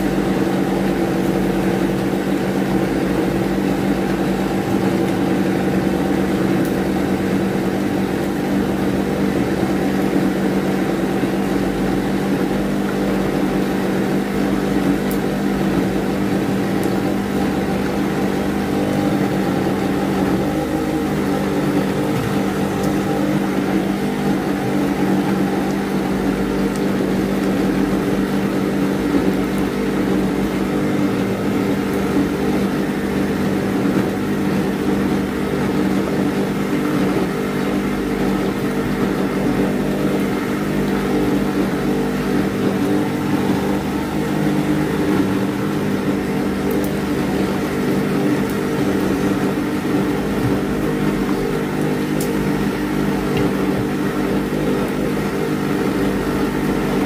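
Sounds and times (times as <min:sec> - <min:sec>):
loud machine hum: 0:00.0 - 0:57.0.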